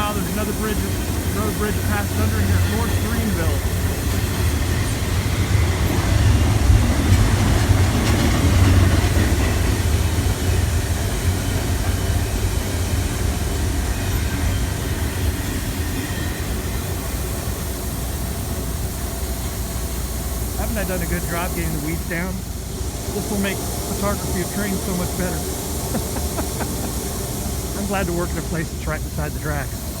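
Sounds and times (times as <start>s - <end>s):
freight train wheels on rail: 0.0s - 30.0s.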